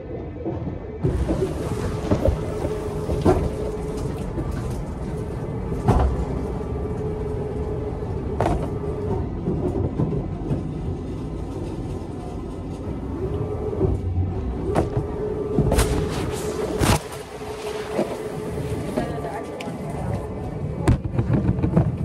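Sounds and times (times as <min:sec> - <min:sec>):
steady hum: 0:00.0 - 0:22.0
terminal background rumble: 0:00.0 - 0:22.0.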